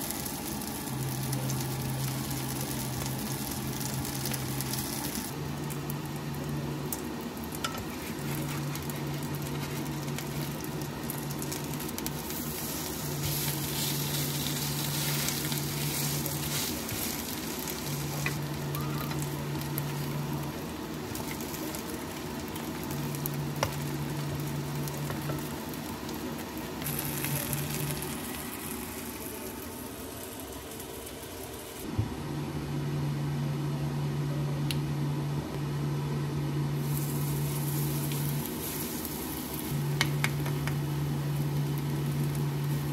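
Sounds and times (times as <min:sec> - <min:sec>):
food sizzling in hot oil: 0:00.0 - 0:31.9, 0:36.8 - 0:42.9.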